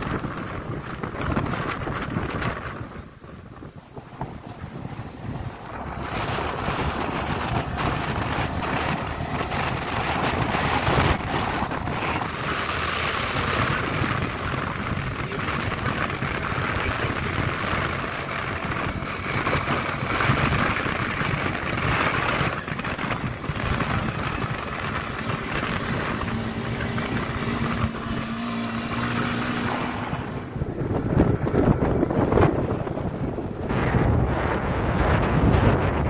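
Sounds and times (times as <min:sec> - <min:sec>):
motorcycle engine running: 0:00.0 - 0:36.0
wind noise on microphone: 0:00.0 - 0:36.0.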